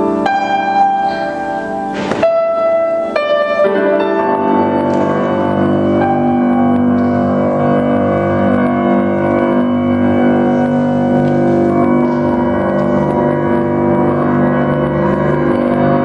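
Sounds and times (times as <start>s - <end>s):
grand piano chords ringing: 0.0s - 16.0s.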